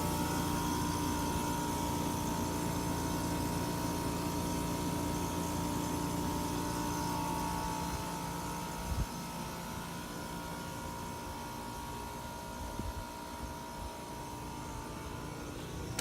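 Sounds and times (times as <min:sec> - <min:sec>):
constant motor tones: 0:00.0 - 0:16.0
fan rushing air: 0:00.0 - 0:16.0
hvac hum: 0:00.0 - 0:16.0.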